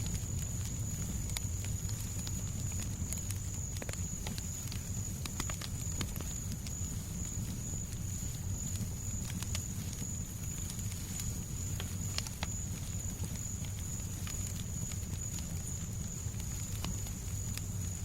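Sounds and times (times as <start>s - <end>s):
fireplace crackling: 0.0s - 18.0s.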